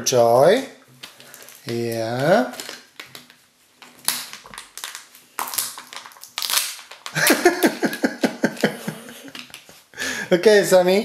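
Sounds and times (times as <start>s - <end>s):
foil wrapper crinkling: 1.0s - 9.8s.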